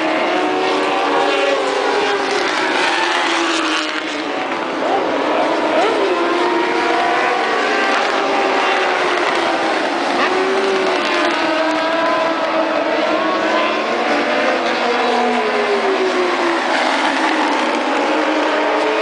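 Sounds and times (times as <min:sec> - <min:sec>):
racing motorcycle engines: 0:00.0 - 0:19.0.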